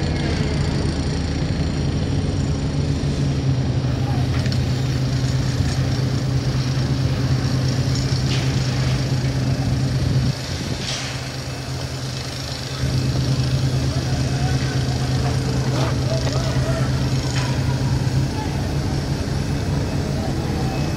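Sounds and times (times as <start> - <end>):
crane diesel engine droning: 0.0 - 20.9.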